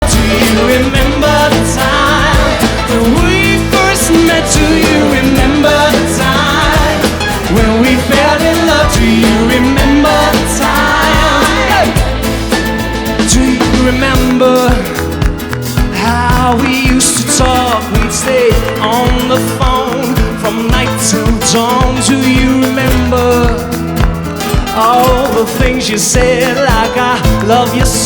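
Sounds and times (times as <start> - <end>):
band playing: 0.0 - 28.0
person singing: 0.0 - 28.0.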